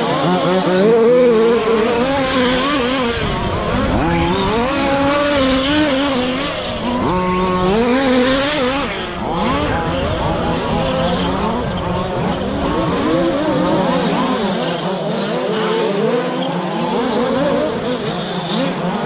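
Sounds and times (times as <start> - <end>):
radio-controlled truck motors: 0.0 - 19.0.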